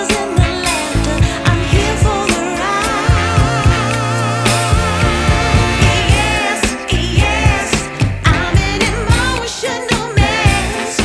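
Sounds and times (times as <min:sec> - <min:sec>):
pop song with singing: 0:00.0 - 0:11.0.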